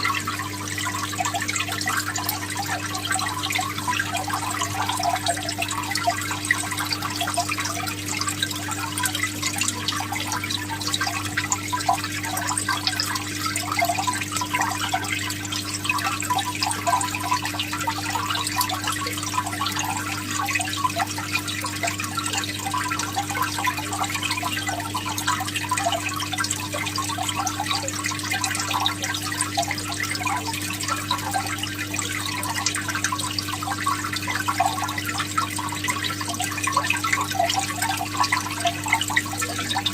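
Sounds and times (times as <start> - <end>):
low electrical hum: 0.0 - 39.9
water trickling and bubbling: 0.0 - 39.9.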